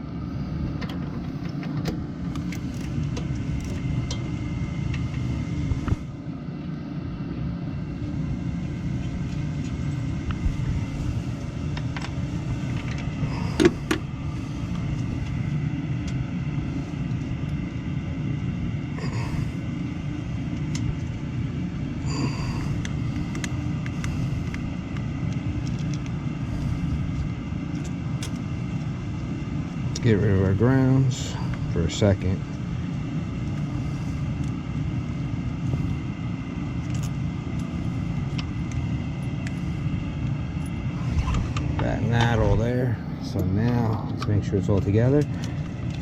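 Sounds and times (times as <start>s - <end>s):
faint steady whine: 0.0s - 46.0s
water heater rumbling: 0.0s - 46.0s.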